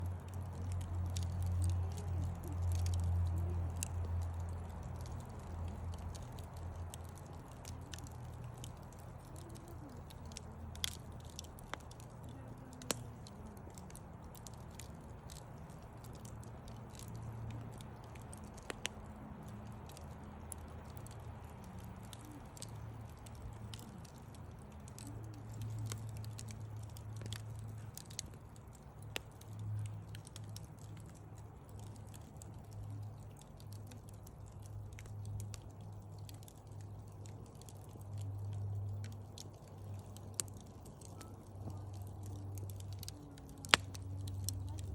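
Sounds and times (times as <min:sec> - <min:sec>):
wood fire crackling: 0:00.0 - 0:44.9
sharp pops of fire: 0:00.2 - 0:44.9.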